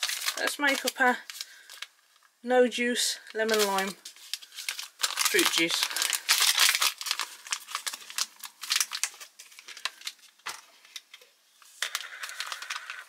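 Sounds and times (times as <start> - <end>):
pouch crinkling and rustling: 0.0 - 2.0, 3.3 - 13.0.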